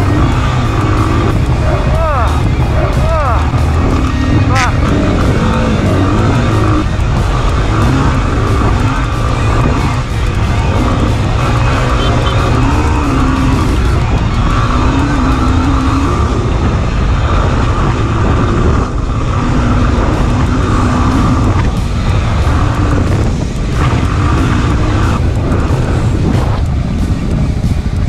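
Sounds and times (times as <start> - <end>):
dirt bike engine revving: 0.0 - 28.0
wind noise on microphone: 0.0 - 28.0.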